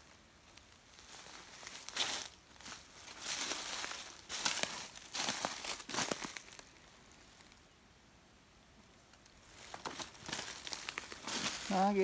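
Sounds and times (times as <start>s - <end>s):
footsteps crunching dry leaves: 0.0s - 7.6s, 9.5s - 12.0s.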